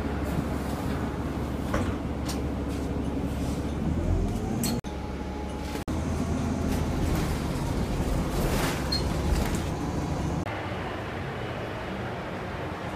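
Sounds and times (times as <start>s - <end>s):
moving bus interior noise: 0.0s - 12.9s
road traffic rumble: 0.0s - 12.9s.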